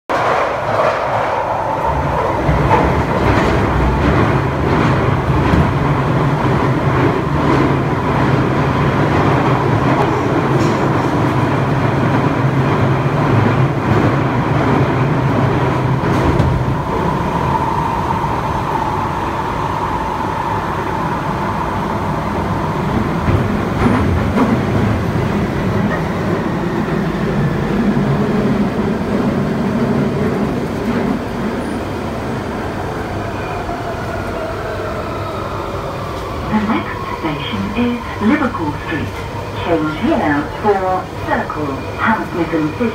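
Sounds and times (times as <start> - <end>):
train rumble and rattle: 0.1 - 42.9.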